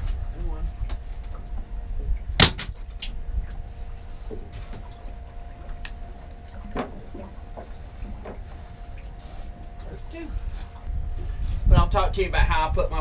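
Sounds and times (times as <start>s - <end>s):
faint constant hum: 0.0s - 13.0s
low rumble: 0.0s - 13.0s.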